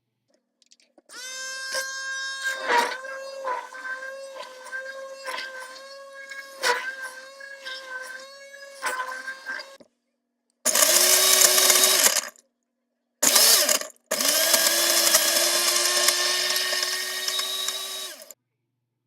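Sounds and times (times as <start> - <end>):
blender motor whirring: 1.1 - 9.8, 10.7 - 12.4, 13.2 - 18.4.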